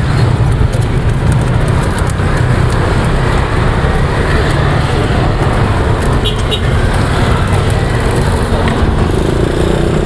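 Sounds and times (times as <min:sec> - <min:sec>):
road traffic rumbling: 0:00.0 - 0:10.0.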